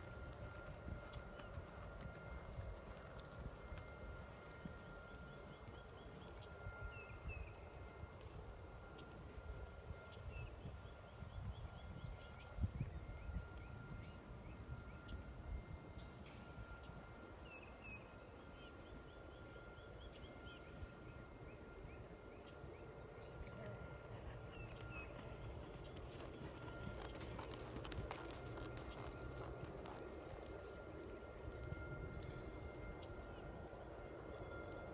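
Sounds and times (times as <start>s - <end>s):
thin steady high tone: 0.0s - 34.9s.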